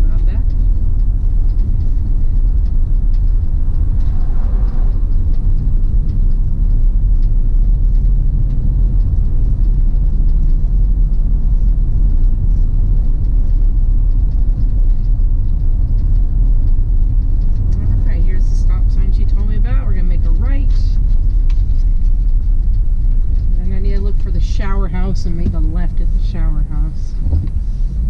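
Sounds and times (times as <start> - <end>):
vehicle driving rumble: 0.0 - 28.0.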